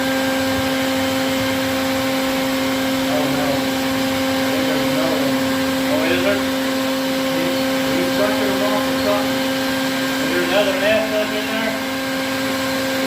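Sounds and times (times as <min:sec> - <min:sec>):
vacuum motor humming: 0:00.0 - 0:13.0.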